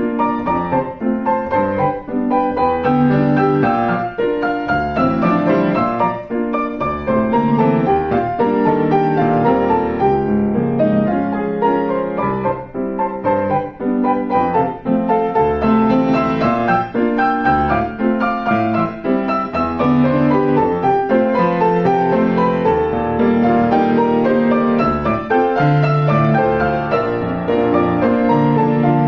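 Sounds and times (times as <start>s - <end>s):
piano duet: 0.0s - 29.0s.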